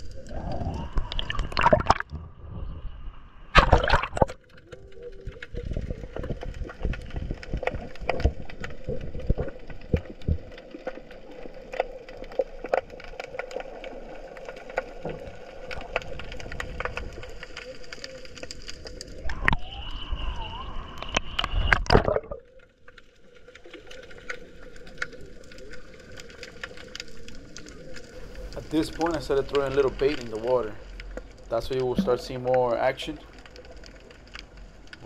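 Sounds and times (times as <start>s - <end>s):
underwater water noise: 0.0s - 35.0s.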